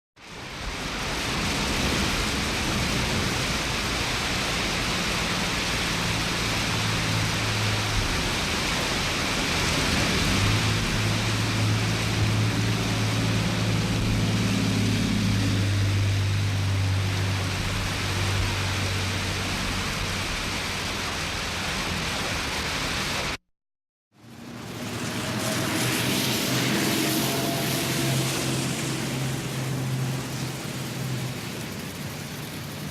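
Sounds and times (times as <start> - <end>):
steady rain falling: 0.2 - 23.4, 24.2 - 32.9.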